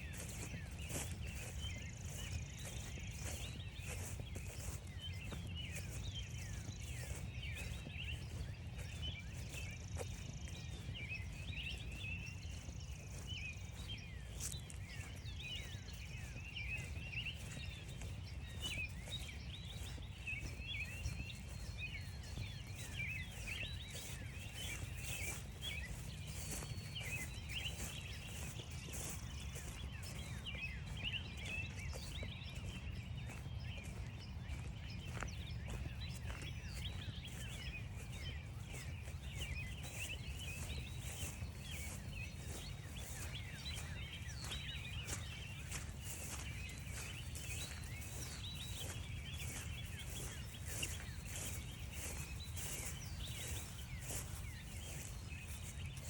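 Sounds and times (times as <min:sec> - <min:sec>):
birds chirping chorus: 0:00.0 - 0:56.0
footsteps crunching on frosty grass: 0:00.0 - 0:56.0.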